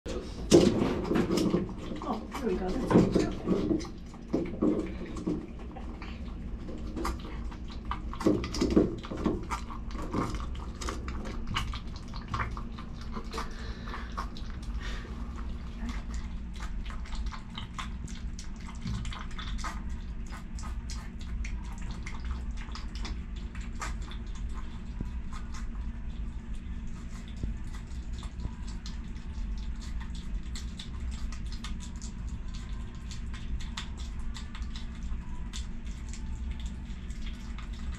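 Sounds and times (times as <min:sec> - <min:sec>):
steady low hum: 0:00.0 - 0:37.9
animal chewing and snuffling: 0:00.1 - 0:37.9.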